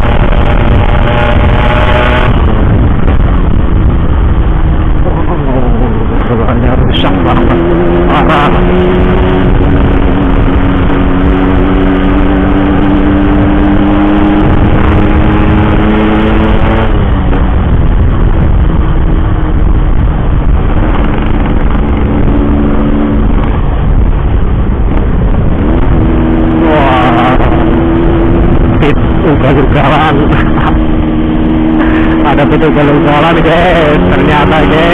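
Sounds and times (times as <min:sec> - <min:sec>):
motorcycle engine revving: 0:00.0 - 0:34.9
wind and road rumble: 0:00.0 - 0:34.9.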